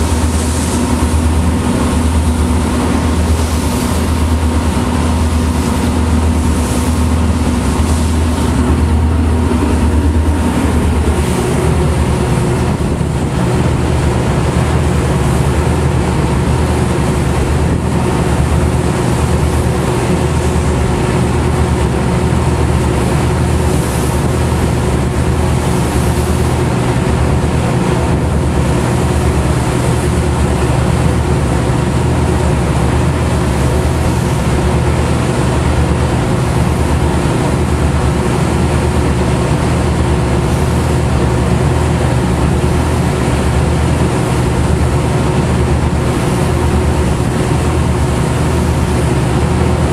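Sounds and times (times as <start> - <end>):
tugboat engines droning: 0.0 - 49.9.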